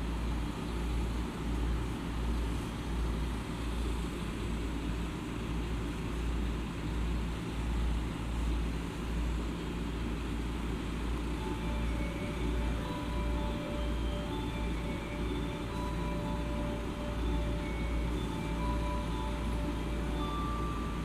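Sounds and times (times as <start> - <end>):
train car interior hum: 0.0 - 21.0.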